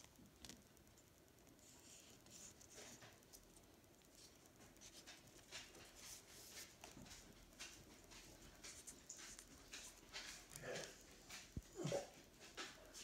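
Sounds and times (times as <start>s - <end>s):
small ticks: 0.0s - 13.0s.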